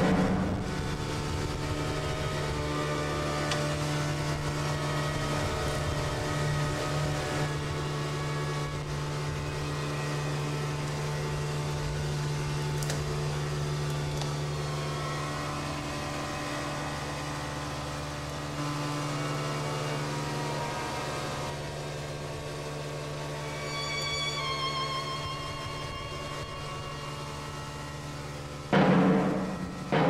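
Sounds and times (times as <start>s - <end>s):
motorboat engine running: 0.0s - 30.0s.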